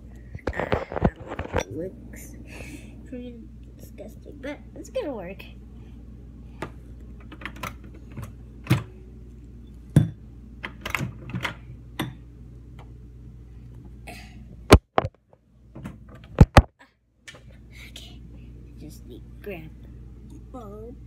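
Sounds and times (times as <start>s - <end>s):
microwave hum: 0.0s - 21.0s.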